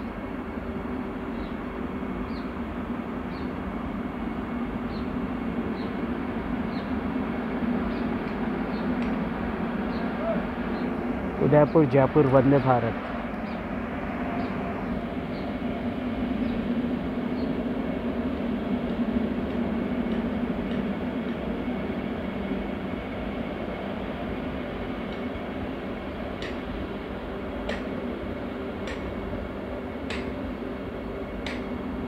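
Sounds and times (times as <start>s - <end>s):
train wheels rumbling: 0.0s - 32.0s.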